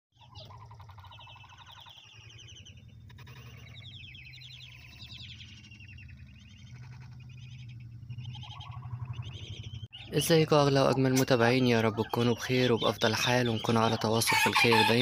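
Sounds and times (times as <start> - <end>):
steady low hum: 0.2 - 14.1
poults peeping: 0.2 - 15.0.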